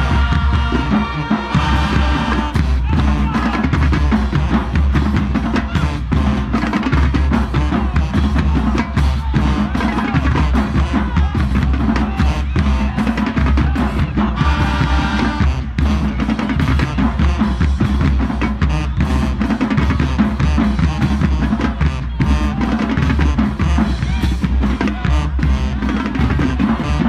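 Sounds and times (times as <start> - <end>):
marching band horns: 0.0 - 27.0
marching drumline cadence: 0.0 - 27.0.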